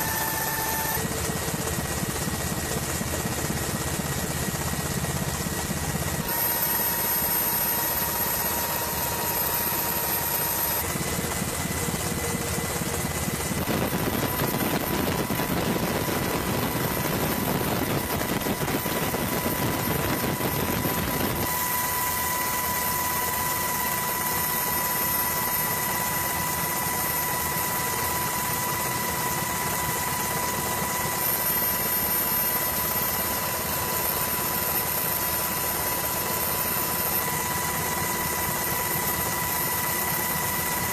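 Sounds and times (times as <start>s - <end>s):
aircraft engine whine: 0.0s - 40.9s.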